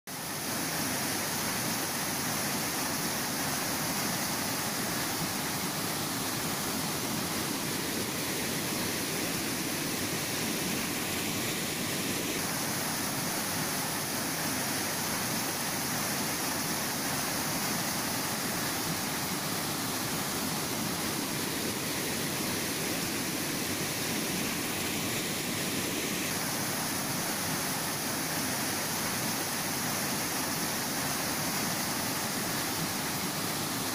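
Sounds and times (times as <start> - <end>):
rushing floodwater torrent: 0.1 - 33.9.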